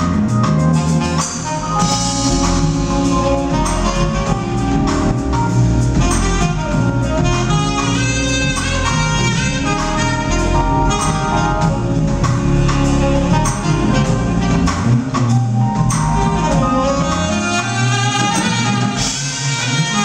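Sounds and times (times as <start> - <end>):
drum kit: 0.0 - 20.0
electric bass: 0.0 - 20.0
tenor saxophone melody: 0.0 - 20.0.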